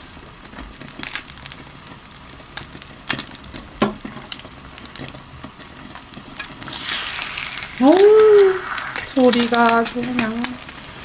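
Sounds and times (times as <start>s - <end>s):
bread sizzling in butter: 0.1s - 11.0s.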